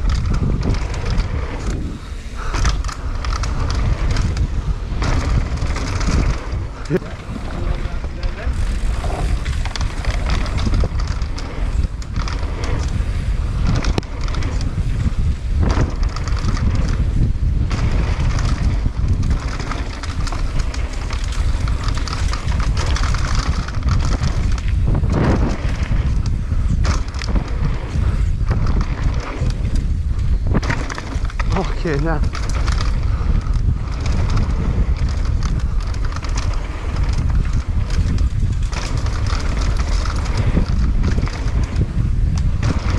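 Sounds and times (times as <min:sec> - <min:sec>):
bike clattering and knocking: 0:00.0 - 0:42.9
tyres rolling on dirt: 0:00.0 - 0:42.9
wind rushing over microphone: 0:00.0 - 0:42.9.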